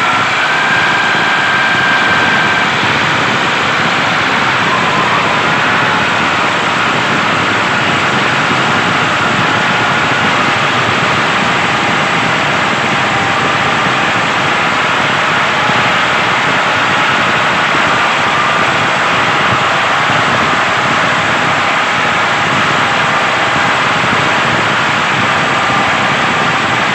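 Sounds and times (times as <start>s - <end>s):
faint wavering whine: 0.0s - 26.9s.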